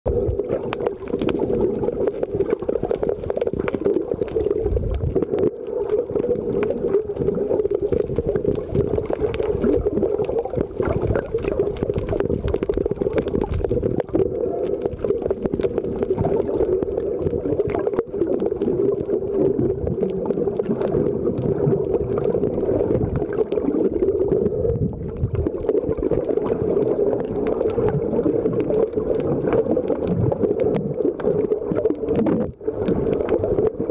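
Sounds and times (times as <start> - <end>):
muffled underwater noise: 0.1 - 33.9.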